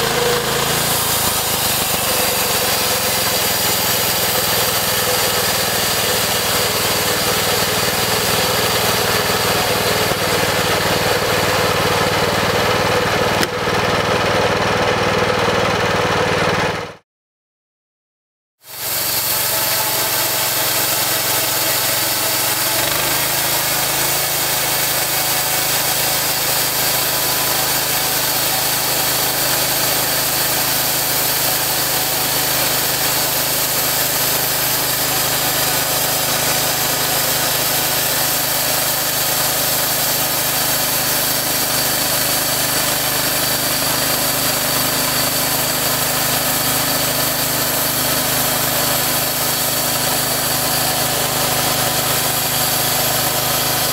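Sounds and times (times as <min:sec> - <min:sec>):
bandsaw mill cutting log: 0:00.0 - 0:17.0, 0:18.6 - 0:53.9.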